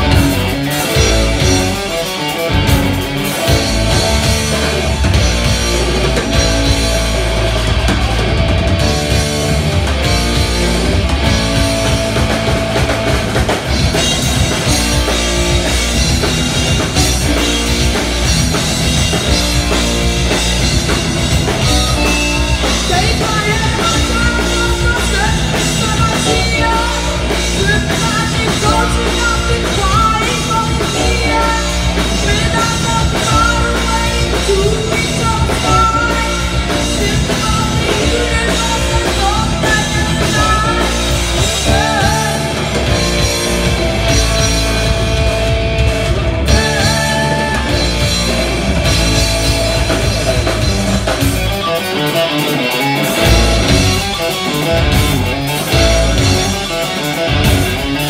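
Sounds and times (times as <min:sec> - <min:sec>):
lead guitar with bent notes: 0:00.0 - 0:58.0
rock band playing live: 0:00.0 - 0:58.0.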